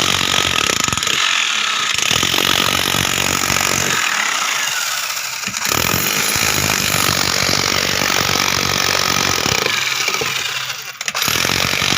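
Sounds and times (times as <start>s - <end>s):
power tool running under load: 0.0s - 11.9s.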